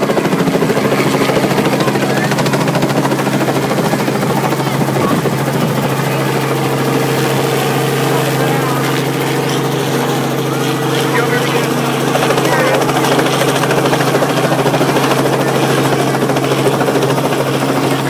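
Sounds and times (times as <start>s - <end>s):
helicopter engine hum: 0.0s - 18.0s
helicopter rotor chopping: 0.0s - 18.0s.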